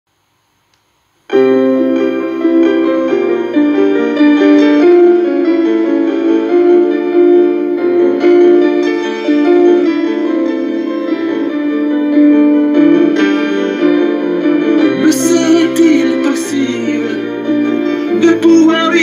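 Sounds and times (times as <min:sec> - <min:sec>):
keyboard chords: 0:01.3 - 0:19.0.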